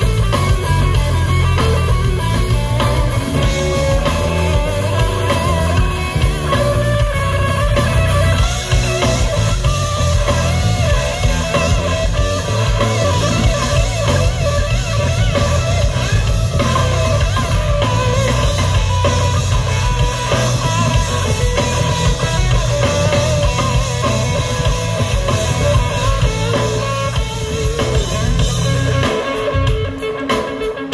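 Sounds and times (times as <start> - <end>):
bass guitar: 0.0 - 30.9
drum kit: 0.0 - 30.9
electric guitars: 0.0 - 30.9
wavering melodic guitar lead: 0.0 - 30.9.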